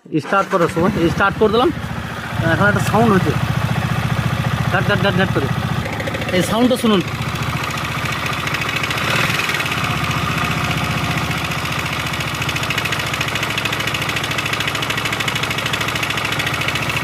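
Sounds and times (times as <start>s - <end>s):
motorcycle engine idling: 0.8s - 17.0s.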